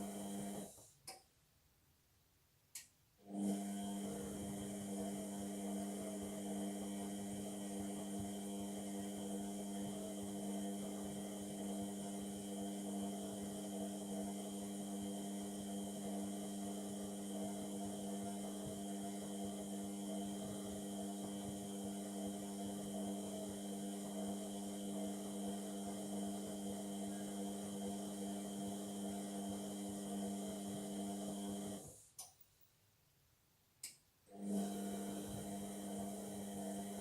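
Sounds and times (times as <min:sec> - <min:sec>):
washing machine humming: 0:03.3 - 0:32.0, 0:34.3 - 0:37.0.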